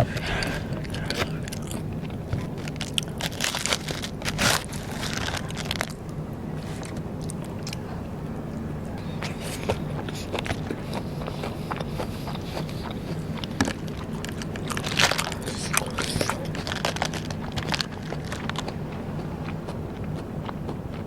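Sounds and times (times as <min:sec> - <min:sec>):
crunchy bites and chewing: 0:00.0 - 0:07.9, 0:09.0 - 0:21.0
steady low hum: 0:00.0 - 0:21.0.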